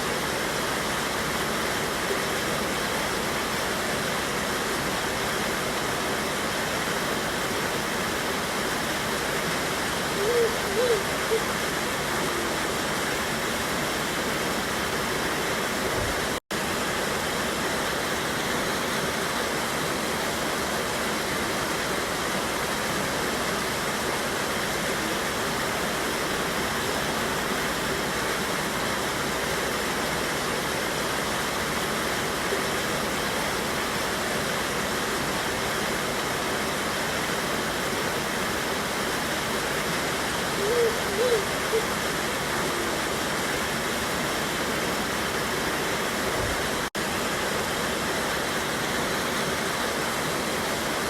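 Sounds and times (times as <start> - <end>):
river pouring over waterfall: 0.0 - 51.0.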